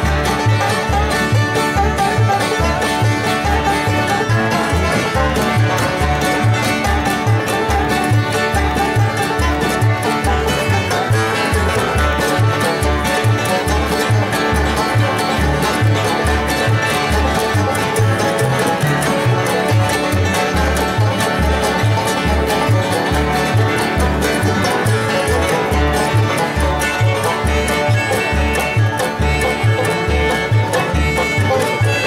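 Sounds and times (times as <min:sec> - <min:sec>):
banjo: 0:00.0 - 0:32.0
fiddle: 0:00.0 - 0:32.0
guitar: 0:00.0 - 0:32.0
mandolin: 0:00.0 - 0:32.0
upright bass thumping: 0:00.0 - 0:32.0.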